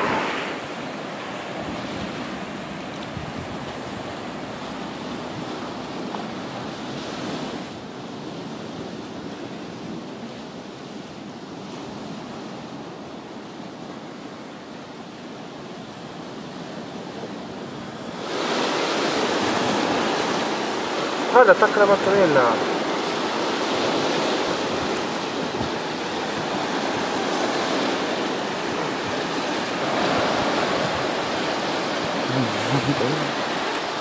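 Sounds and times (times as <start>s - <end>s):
surf breaking on rocky shore: 0.0s - 9.9s, 15.4s - 34.0s
wind: 0.0s - 34.0s.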